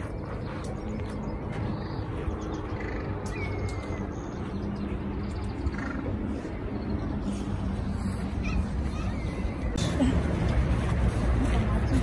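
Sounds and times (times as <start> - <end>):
low outdoor background hum: 0.0 - 12.0.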